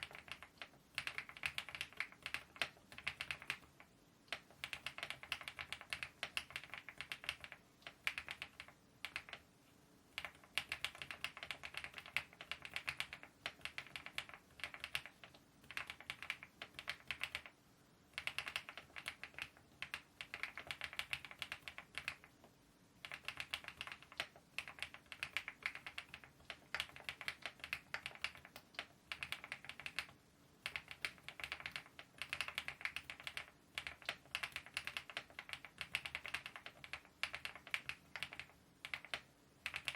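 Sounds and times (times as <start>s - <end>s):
typing on mechanical keyboard: 0.0s - 9.5s, 10.1s - 39.9s.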